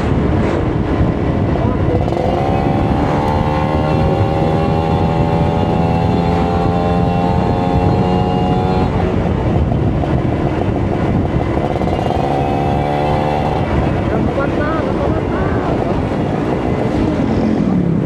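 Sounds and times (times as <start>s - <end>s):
two-stroke motorcycle engine: 0.0s - 18.0s.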